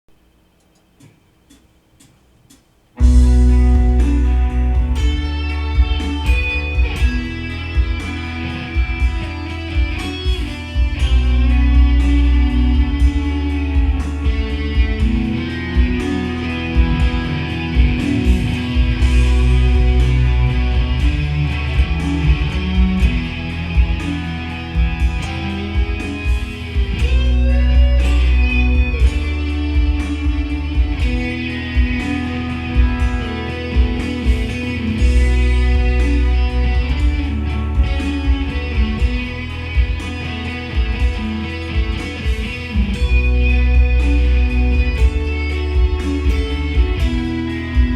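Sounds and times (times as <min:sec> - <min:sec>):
bass and drums beat: 0:00.1 - 0:47.9
electric guitar music: 0:03.0 - 0:47.9.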